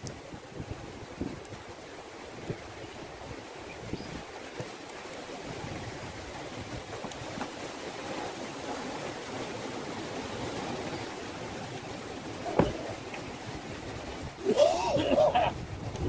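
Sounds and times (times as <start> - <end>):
campfire burning in wind: 0.0 - 16.0.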